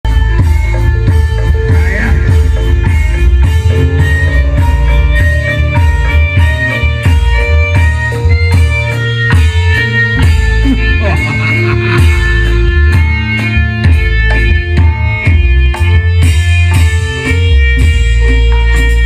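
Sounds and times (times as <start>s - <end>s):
band music with quick melody: 0.0s - 19.0s
heavy pulsing bass: 0.0s - 19.0s
steady drumming: 0.1s - 19.0s.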